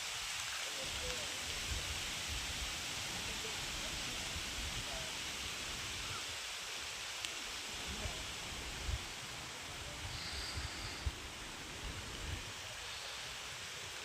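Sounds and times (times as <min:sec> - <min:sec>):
even outdoor hiss: 0:00.0 - 0:14.0.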